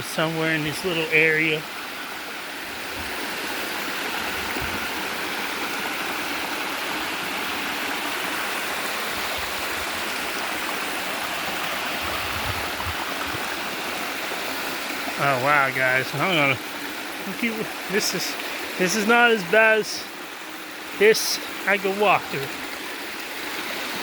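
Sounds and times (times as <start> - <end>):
waterfall rushing over rocks: 0.0 - 24.0.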